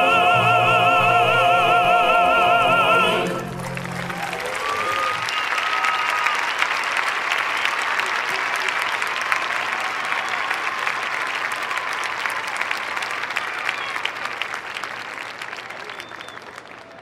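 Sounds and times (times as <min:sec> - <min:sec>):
audience applauding: 0:02.7 - 0:17.0.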